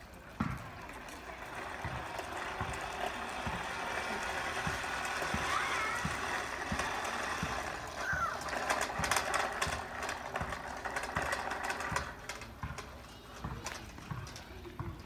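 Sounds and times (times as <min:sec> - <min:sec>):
toy lawnmower rolling on concrete: 0:00.0 - 0:15.0.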